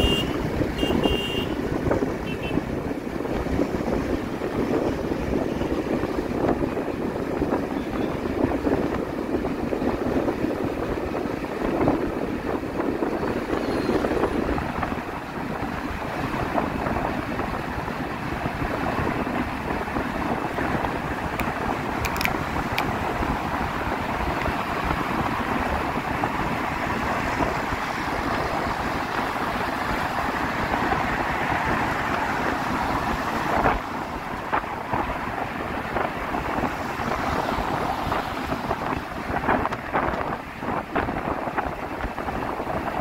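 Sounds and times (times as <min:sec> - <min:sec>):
vehicle road noise: 0:00.0 - 0:43.0
wind rushing over microphone: 0:00.0 - 0:43.0.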